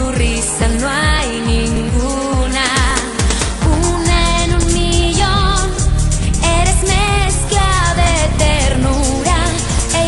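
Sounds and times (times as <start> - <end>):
upbeat pop song: 0.0 - 10.0.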